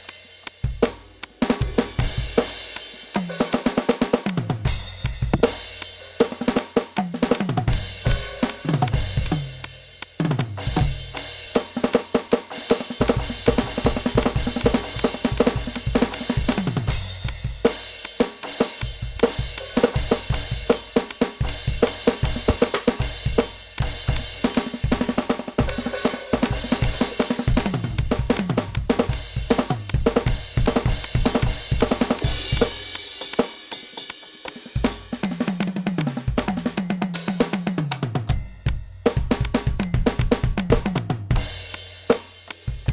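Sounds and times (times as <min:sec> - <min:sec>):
drum fills on toms: 0:00.0 - 0:42.9
electronic drum kit groove: 0:00.0 - 0:42.9.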